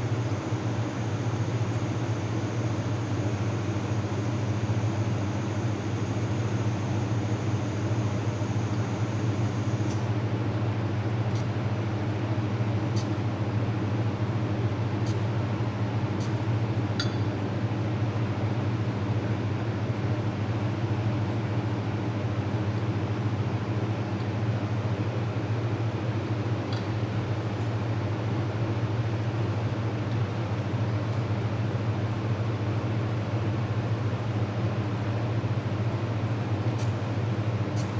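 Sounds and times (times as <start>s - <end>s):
machine electrical hum: 0.0s - 37.9s.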